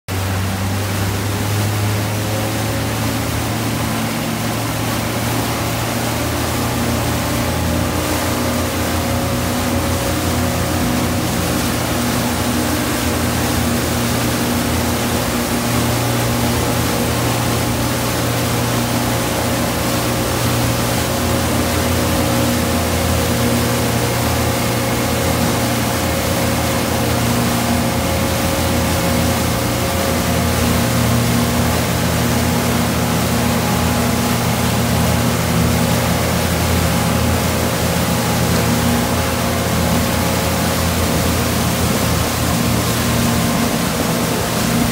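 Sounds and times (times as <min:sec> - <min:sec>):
churning wake water: 0:00.1 - 0:44.9
motorboat engine droning: 0:00.1 - 0:44.9
wind: 0:00.1 - 0:44.9.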